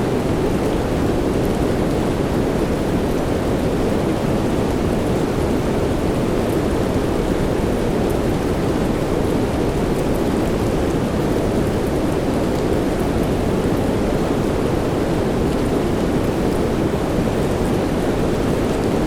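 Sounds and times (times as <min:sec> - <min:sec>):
soft rain: 0:00.0 - 0:19.0.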